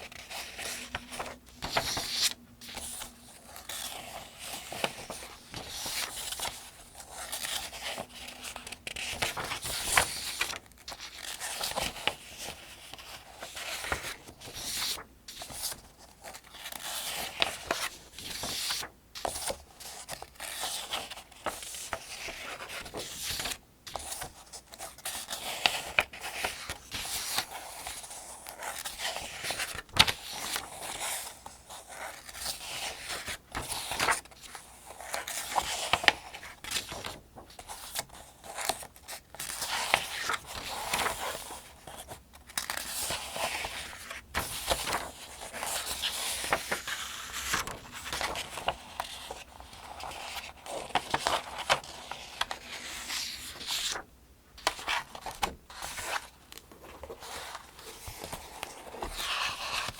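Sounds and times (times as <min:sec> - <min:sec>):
paper pages turning: 0:00.1 - 0:59.9.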